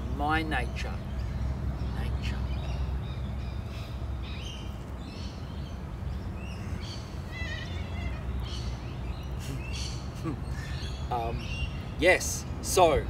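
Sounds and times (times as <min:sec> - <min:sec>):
birds chirping and calling: 0:00.0 - 0:13.0
low background rumble: 0:00.0 - 0:13.0.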